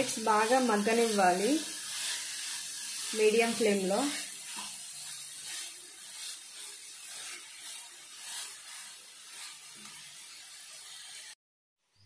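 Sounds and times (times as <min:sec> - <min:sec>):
carrot frying hiss: 0:00.0 - 0:11.4
wooden spatula scraping a pan: 0:00.0 - 0:11.4.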